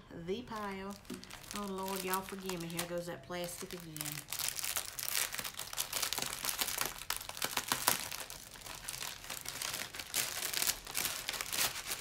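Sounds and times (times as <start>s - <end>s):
plastic wrapping crinkling: 0.4s - 12.0s.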